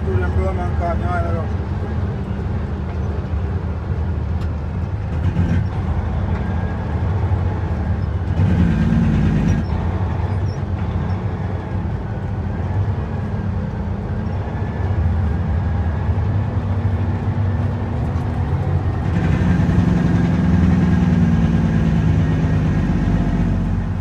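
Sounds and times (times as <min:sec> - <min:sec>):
diesel truck engine running: 0:00.0 - 0:24.0
road rumble on dirt track: 0:00.0 - 0:24.0.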